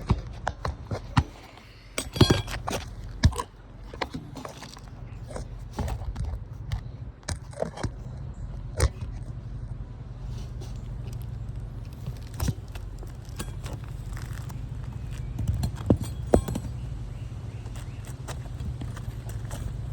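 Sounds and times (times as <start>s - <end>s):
tools tapping on shingle: 0.0s - 8.2s, 11.9s - 19.9s
steady low hum: 0.0s - 19.9s.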